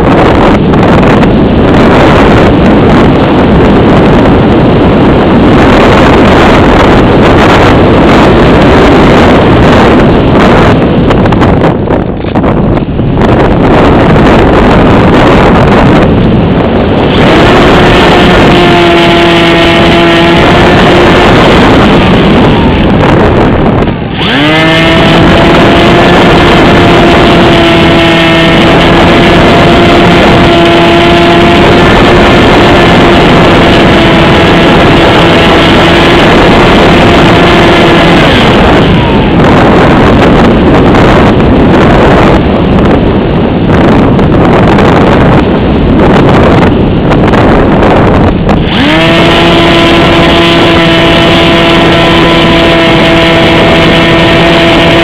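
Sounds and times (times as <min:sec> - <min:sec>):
electric motor and propeller whining: 0:00.0 - 0:55.0
wind rushing over microphone: 0:00.0 - 0:55.0.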